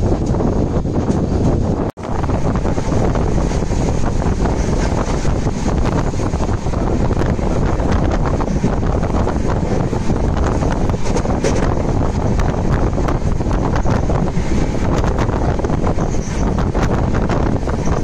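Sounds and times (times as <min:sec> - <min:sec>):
train rumbling over bridge: 0:00.0 - 0:18.0
wheels clicking on track: 0:00.0 - 0:18.0
wind buffeting microphone: 0:00.0 - 0:18.0.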